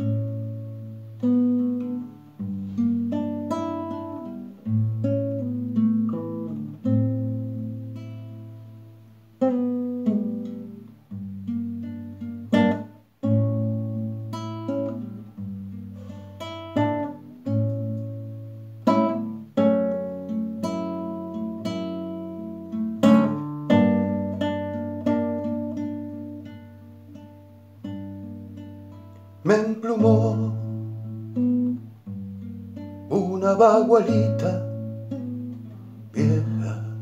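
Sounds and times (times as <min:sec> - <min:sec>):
solo classical guitar: 0:00.0 - 0:37.0.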